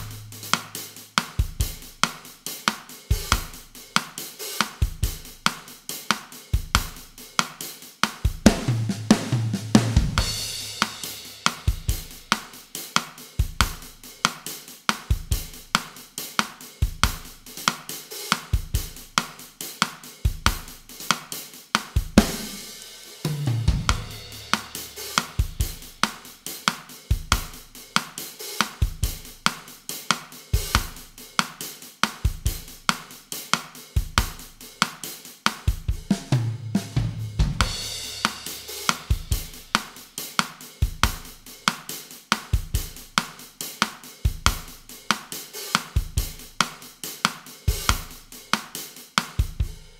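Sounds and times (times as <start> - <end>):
drum fill: 0.0 - 49.9
drum kit groove: 0.0 - 49.9.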